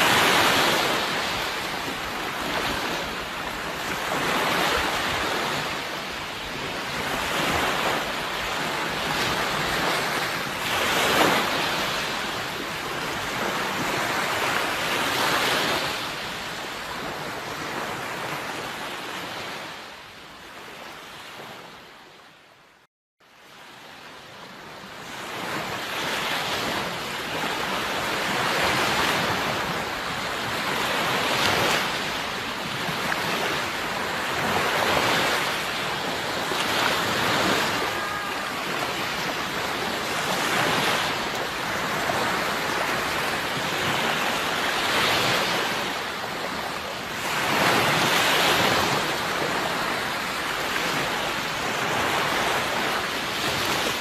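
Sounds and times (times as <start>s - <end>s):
sea waves washing in: 0.0s - 22.2s, 23.4s - 54.0s.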